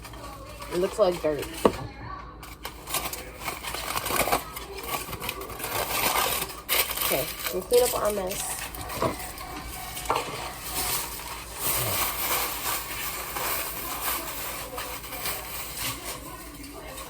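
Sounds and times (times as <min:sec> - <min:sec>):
utensils and bowls clinking: 0:00.0 - 0:17.0.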